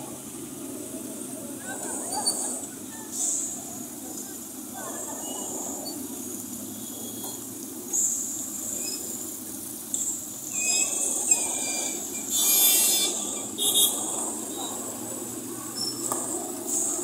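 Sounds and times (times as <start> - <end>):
traffic hum: 0.0 - 17.0
high hiss: 2.4 - 17.0.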